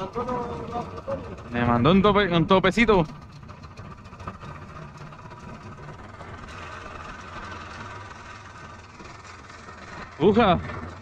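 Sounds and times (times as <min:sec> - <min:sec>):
motor humming at low speed: 0:00.0 - 0:11.0.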